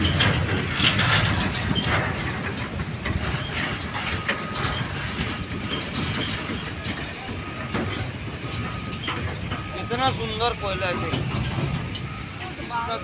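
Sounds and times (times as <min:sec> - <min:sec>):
clanking and rattling truck body: 0:00.0 - 0:13.0
dump truck engine rumble: 0:00.0 - 0:13.0.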